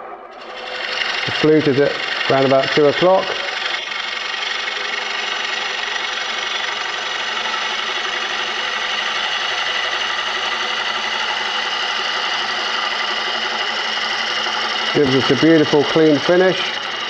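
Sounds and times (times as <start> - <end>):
lathe cutting hiss: 0.4 - 17.0.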